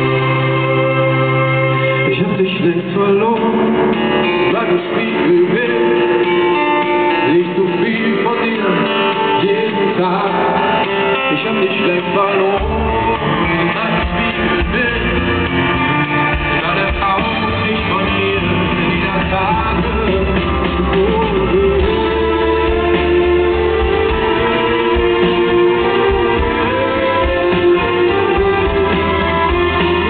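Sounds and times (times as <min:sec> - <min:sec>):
bass guitar: 0:00.0 - 0:30.0
live pop-rock band playing: 0:00.0 - 0:30.0
man singing lead: 0:02.0 - 0:30.0.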